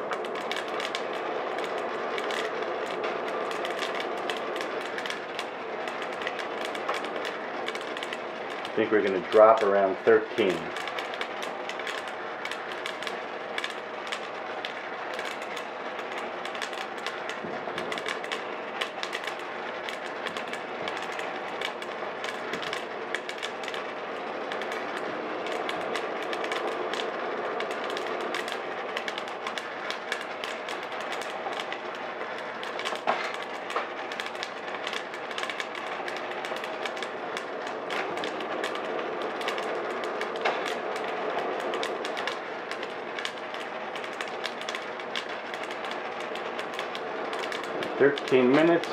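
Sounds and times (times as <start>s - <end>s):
coffee beans crackling: 0.0s - 48.9s
roaster fan and motor running: 0.0s - 48.9s.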